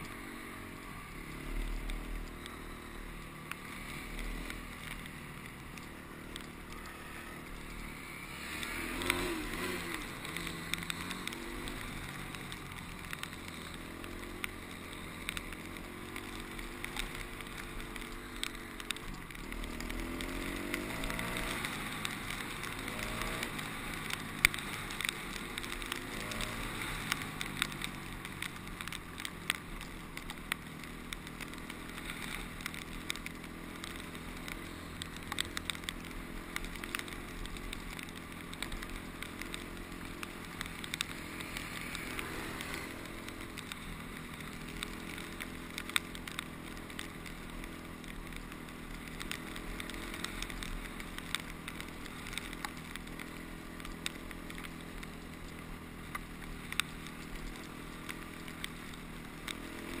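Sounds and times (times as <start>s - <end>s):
dirt bike engine running: 0.0s - 60.0s
sharp ticks: 0.0s - 60.0s.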